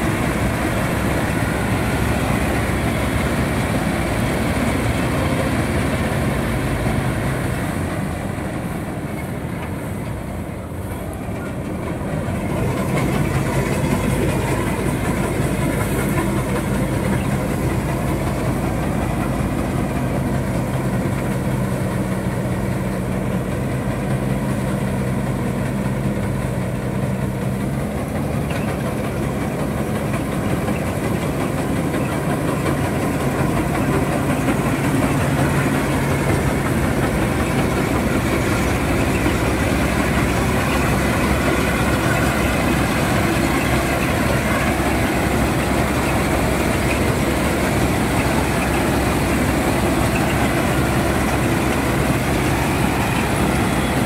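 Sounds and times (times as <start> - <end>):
threshing machinery noise: 0.0 - 54.0
tractor engine hum: 0.0 - 54.0.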